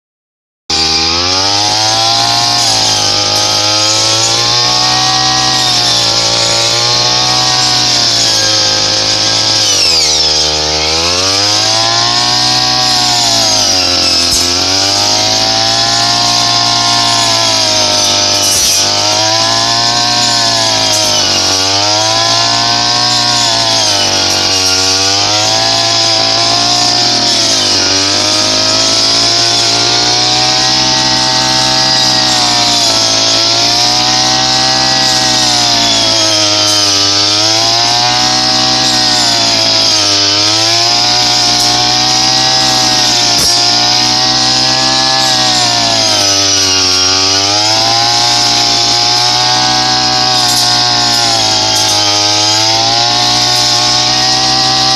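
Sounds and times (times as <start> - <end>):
brush cutter engine cutting: 0.7 - 54.9.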